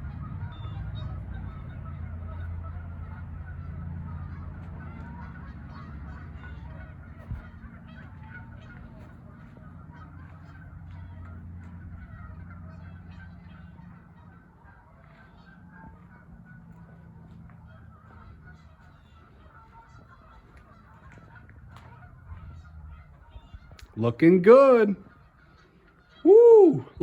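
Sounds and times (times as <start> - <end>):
birds honking calls: 0.0 - 27.0.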